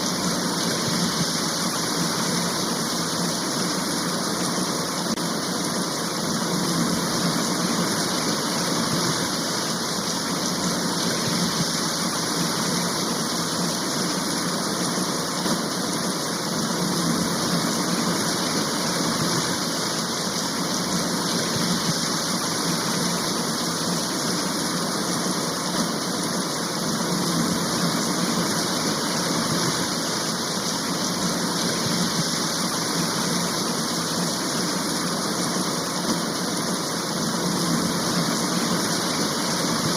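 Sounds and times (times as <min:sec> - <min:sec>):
rain shower hiss: 0:00.0 - 0:39.9.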